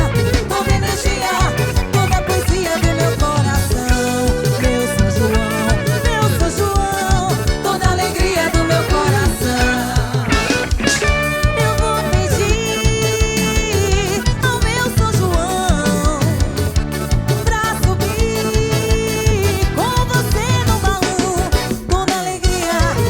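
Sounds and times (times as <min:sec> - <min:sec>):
band playing upbeat dance music: 0:00.0 - 0:23.0.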